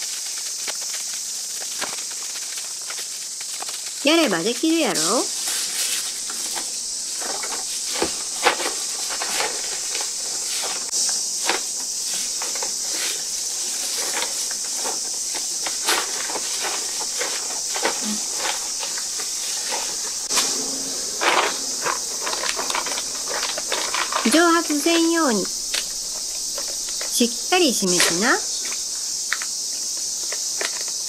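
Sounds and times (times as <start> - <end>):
cicadas droning: 0.0 - 31.0
plastic bag crinkling: 0.0 - 31.0.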